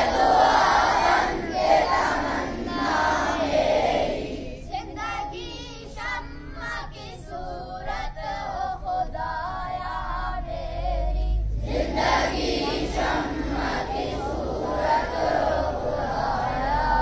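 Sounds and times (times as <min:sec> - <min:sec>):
boys chanting in unison: 0:00.0 - 0:17.0.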